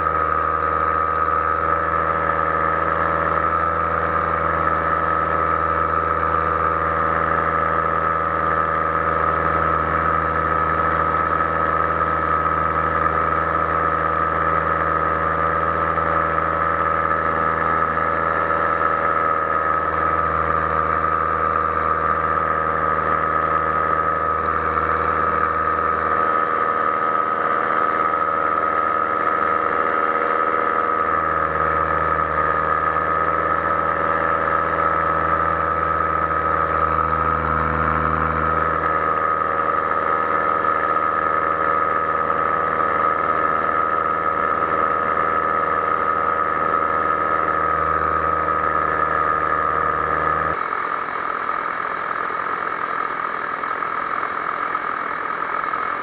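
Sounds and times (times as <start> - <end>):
paraglider engine and propeller drone: 0.0 - 56.0.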